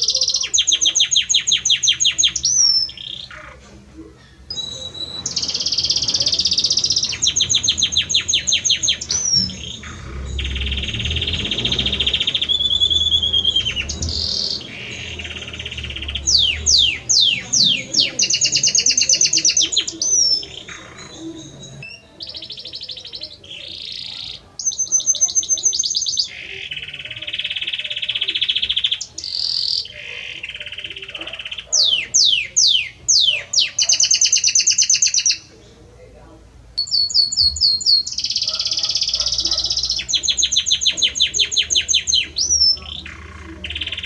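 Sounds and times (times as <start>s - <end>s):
canary singing trills: 0.0s - 35.8s, 36.8s - 44.0s.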